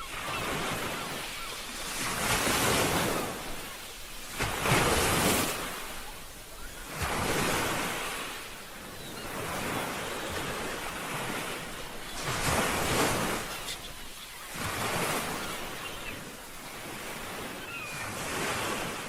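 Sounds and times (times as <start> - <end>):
ocean waves washing onto shore: 0.0 - 19.0.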